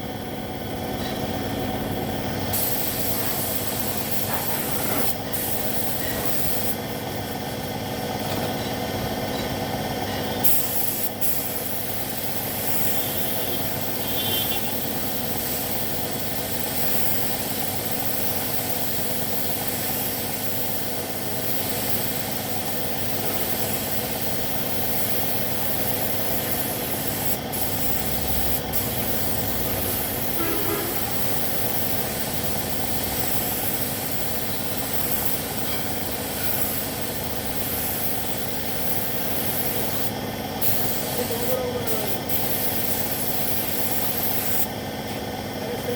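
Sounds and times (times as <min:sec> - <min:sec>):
mechanical hum: 0:00.0 - 0:45.9
spray gun hissing: 0:02.4 - 0:06.8, 0:10.4 - 0:44.8.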